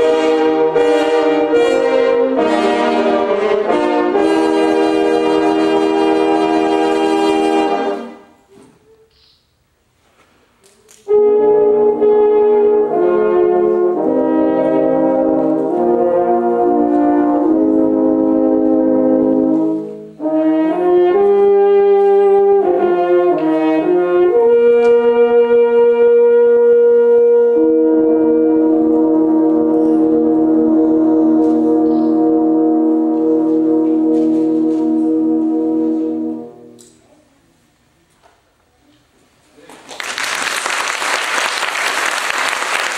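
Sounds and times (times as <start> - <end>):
french horn ensemble chords: 0.0 - 8.4, 11.0 - 37.0.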